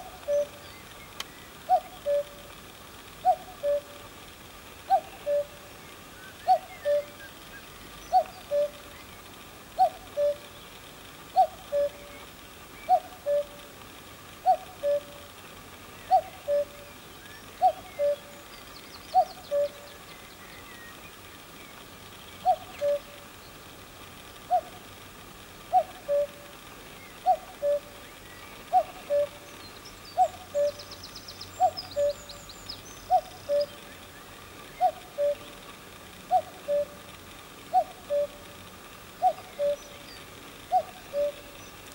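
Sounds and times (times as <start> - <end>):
cuckoo calling: 0.0 - 2.6, 3.2 - 4.1, 4.8 - 13.7, 14.4 - 23.6, 24.4 - 24.9, 25.6 - 35.6, 36.2 - 41.9
small birds twittering: 0.0 - 4.1, 4.8 - 13.8, 14.4 - 24.9, 25.6 - 41.9.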